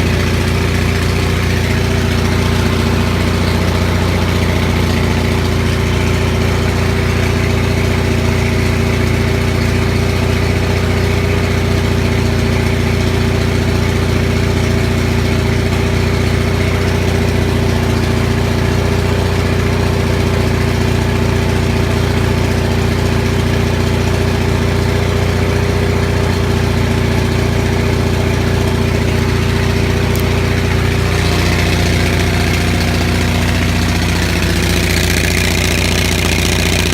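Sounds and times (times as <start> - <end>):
generator running: 0.0 - 36.9.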